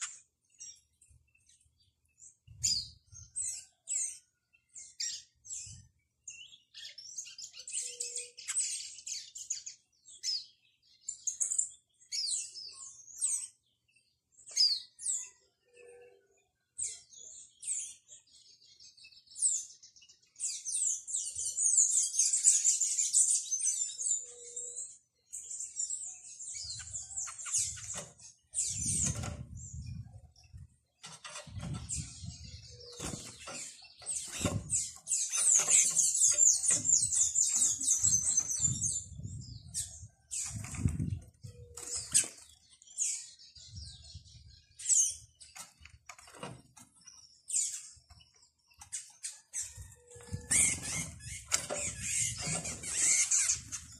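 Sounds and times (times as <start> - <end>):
small birds chirping and twittering: 0.0 - 53.9.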